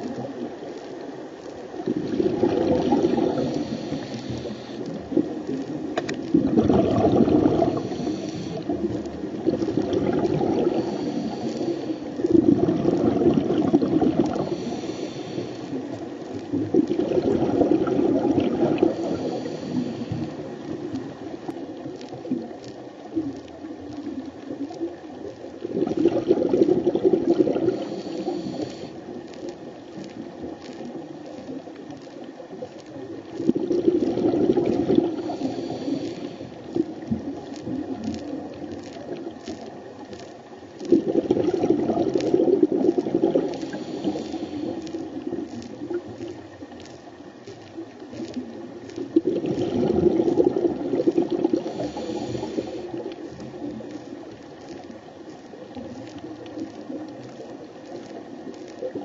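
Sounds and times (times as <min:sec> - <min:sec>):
faint underwater clicks and crackles: 0:00.0 - 0:59.0
underwater air bubbles: 0:00.0 - 0:59.0.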